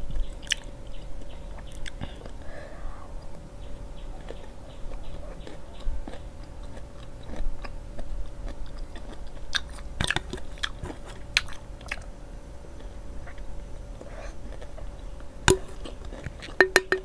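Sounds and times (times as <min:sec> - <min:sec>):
person chewing food: 0:00.1 - 0:02.5, 0:03.2 - 0:16.6.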